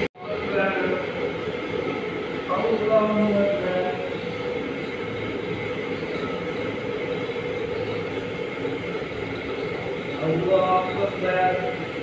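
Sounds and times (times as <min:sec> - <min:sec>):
steady rumbling background noise: 0:00.0 - 0:12.0.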